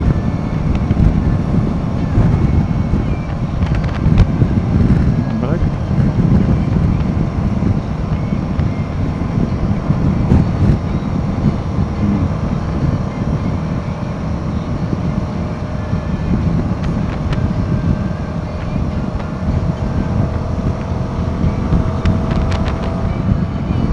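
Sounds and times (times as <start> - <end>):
motorcycle engine running: 0.0 - 23.9
wind rumble on microphone: 0.0 - 23.9.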